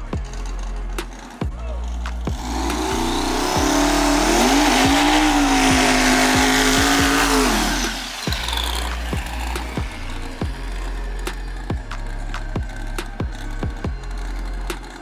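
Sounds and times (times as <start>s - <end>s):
background music with steady beat: 0.0s - 15.0s
drag car engine at full throttle: 0.0s - 15.0s.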